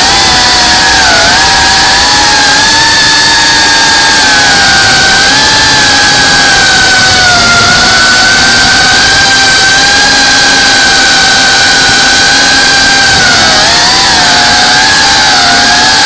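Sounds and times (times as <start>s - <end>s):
drone motors whining: 0.0s - 16.0s
heavy rushing noise: 0.0s - 16.0s.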